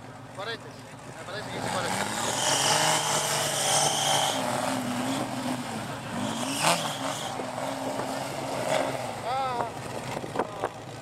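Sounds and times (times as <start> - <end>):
dune buggy engine under load: 0.0 - 11.0.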